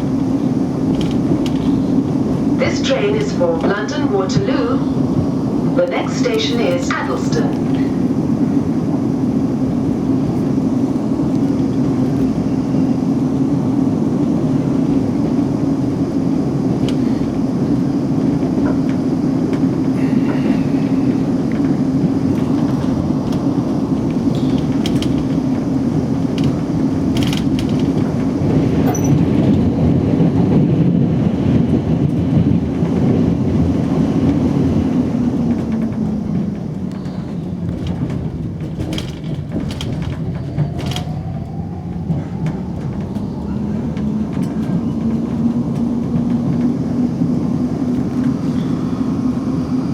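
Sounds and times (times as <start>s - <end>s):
train droning tone: 0.0s - 49.9s
train wheels rumbling on rail: 0.0s - 49.9s.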